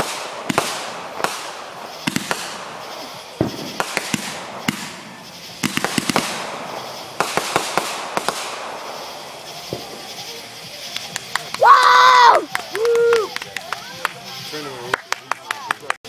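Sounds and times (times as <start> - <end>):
firework cracks and pops: 0.0 - 16.0
firework hiss: 0.0 - 16.0.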